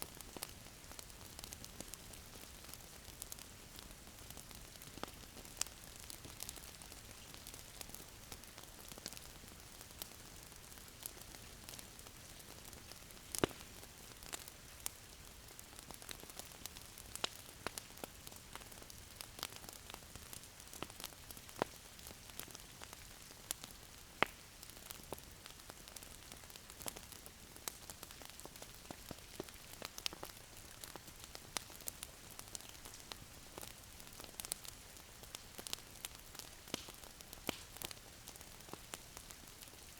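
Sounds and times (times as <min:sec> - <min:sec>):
soft hiss of fire: 0:00.0 - 0:39.9
wood fire crackling: 0:00.0 - 0:39.9.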